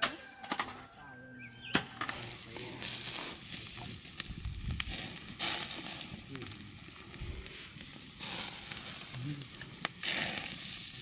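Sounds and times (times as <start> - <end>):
chickens sizzling on grill: 0.0 - 11.0.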